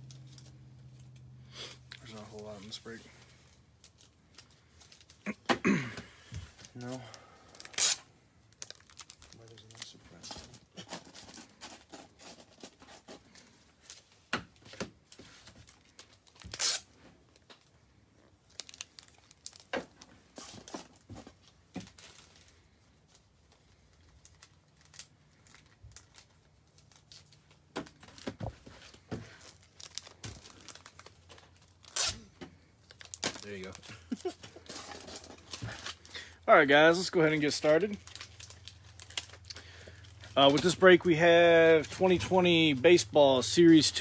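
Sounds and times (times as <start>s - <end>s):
rustling and crinkling: 1.9s - 5.4s, 6.2s - 44.0s.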